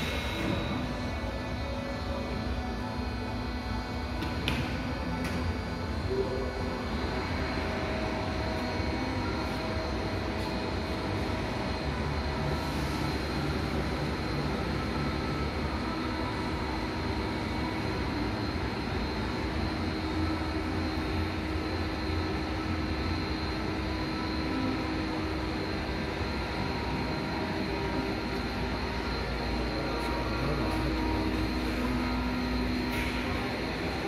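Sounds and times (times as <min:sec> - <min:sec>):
machine drive humming: 0:00.0 - 0:34.0.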